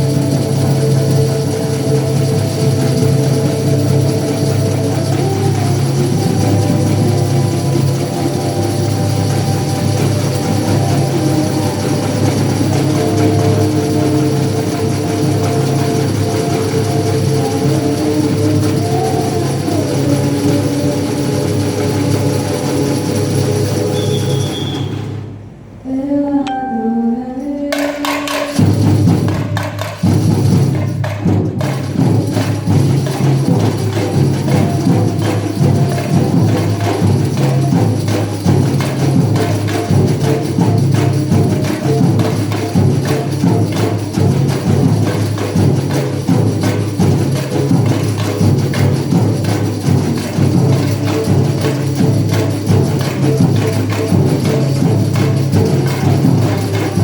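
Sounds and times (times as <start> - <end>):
busy percussion: 0.0 - 57.0.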